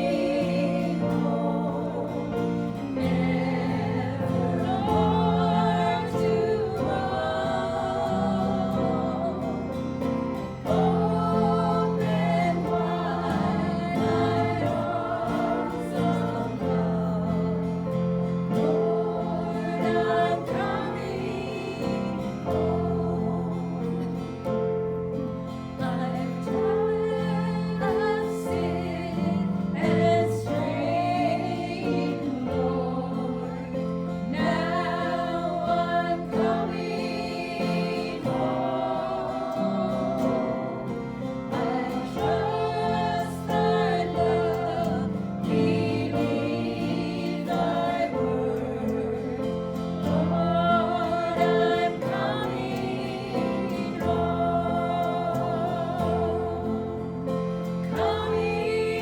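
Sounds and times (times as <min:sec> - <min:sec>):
voices singing gospel song: 0:00.0 - 0:59.0.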